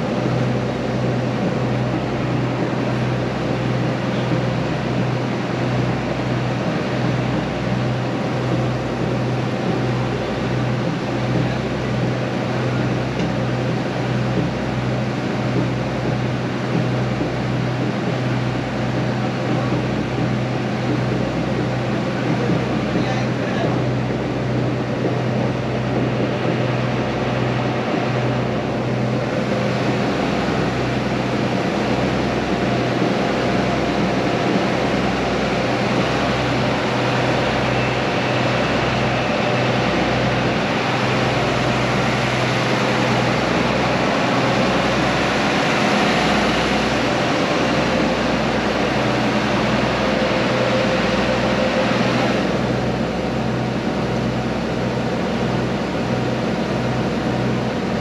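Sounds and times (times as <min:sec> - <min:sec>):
ferry engine humming: 0:00.0 - 0:58.0.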